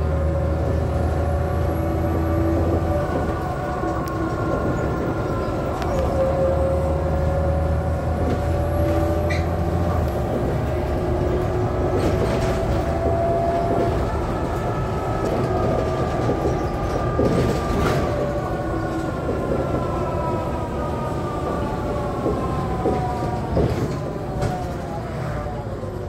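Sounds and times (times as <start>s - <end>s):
bus drivetrain whine: 0.0s - 26.0s
bus running noise: 0.0s - 26.0s.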